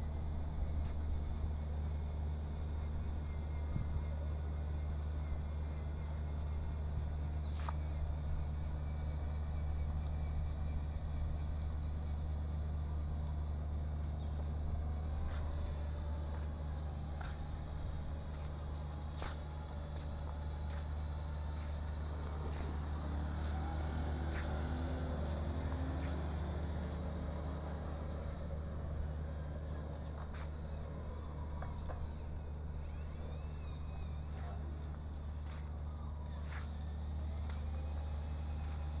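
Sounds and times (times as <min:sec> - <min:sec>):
insects shrilling: 0:02.2 - 0:39.0.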